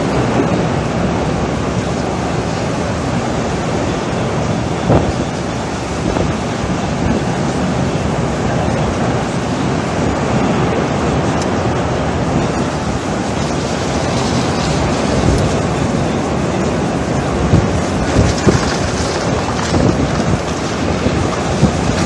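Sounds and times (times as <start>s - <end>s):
storm wind on microphone: 0.0s - 22.0s.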